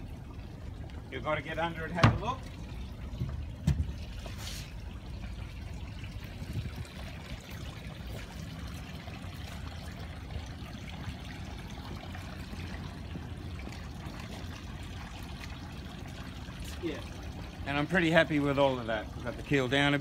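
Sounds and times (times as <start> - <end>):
low steady rumble: 0.0 - 20.0
water trickling and dripping: 0.0 - 20.0.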